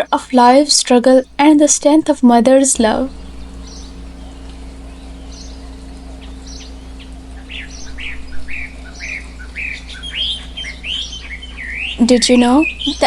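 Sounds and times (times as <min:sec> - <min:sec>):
bird whistling notes: 0:00.0 - 0:05.7, 0:07.4 - 0:13.0
steady low hum: 0:00.0 - 0:13.0.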